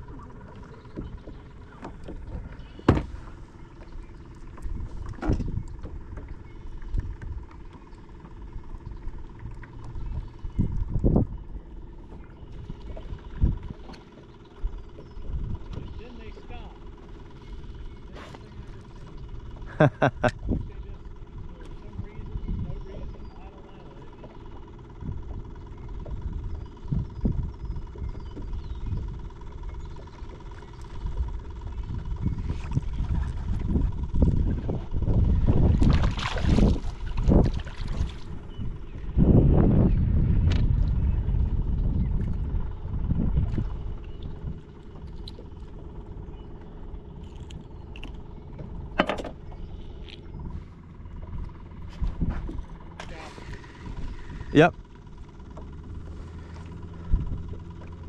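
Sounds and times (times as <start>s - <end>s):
wind buffeting microphone: 0.0s - 7.7s, 8.4s - 14.0s, 14.6s - 16.7s, 20.2s - 30.0s, 30.6s - 47.2s, 47.8s - 58.0s
low handling rumble: 0.0s - 58.0s.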